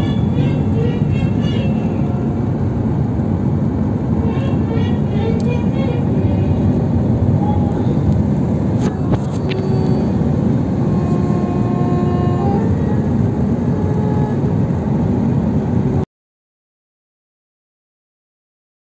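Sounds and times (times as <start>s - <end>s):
car driving on road: 0.0s - 16.0s.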